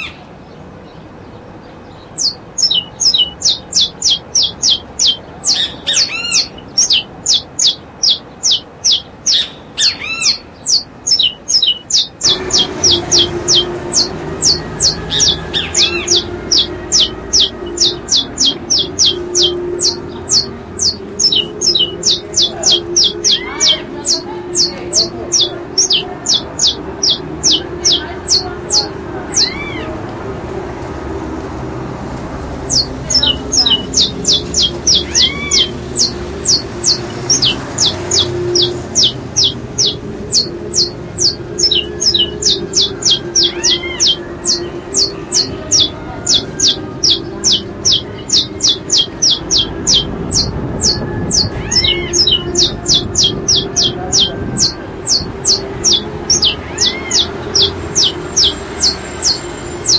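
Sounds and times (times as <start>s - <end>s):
bird chirping sharply: 1.6s - 29.9s, 32.6s - 59.9s.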